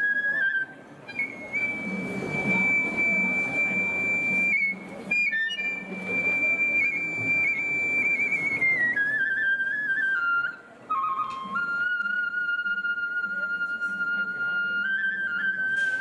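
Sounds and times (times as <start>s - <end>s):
bamboo flute high note: 0.0s - 16.0s.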